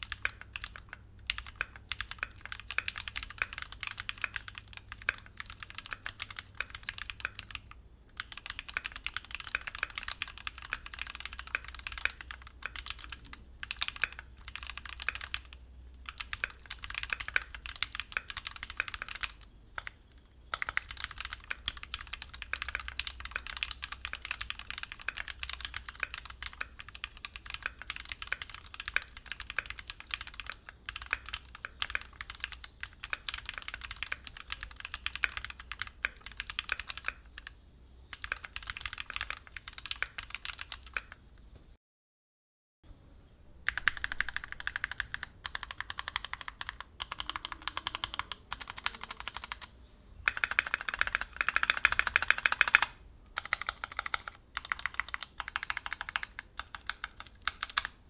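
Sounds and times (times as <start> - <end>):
mechanical keyboard typing: 0.0 - 41.2, 43.6 - 58.0.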